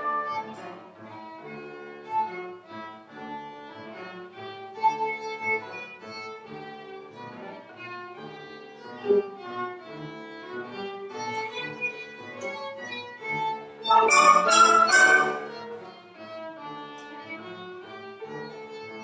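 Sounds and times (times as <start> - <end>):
orchestral strings and piano: 0.0 - 16.9
solo violin melody: 0.0 - 19.0.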